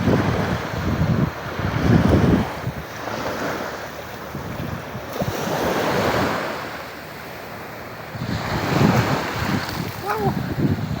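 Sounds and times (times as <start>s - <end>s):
wind buffeting microphone: 0.0s - 6.8s, 7.9s - 11.0s
sea surf washing in: 0.0s - 11.0s.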